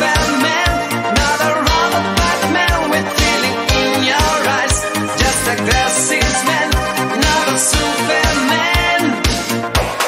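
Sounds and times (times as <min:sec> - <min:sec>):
disco dance music: 0:00.0 - 0:10.0
steady kick drum beat: 0:00.0 - 0:10.0.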